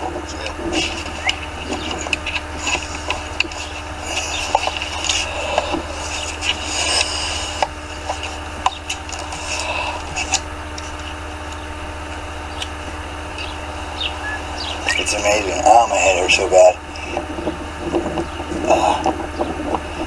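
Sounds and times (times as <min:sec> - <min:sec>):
rubbing and rustling: 0:00.0 - 0:20.0
steady low hum: 0:00.0 - 0:20.0.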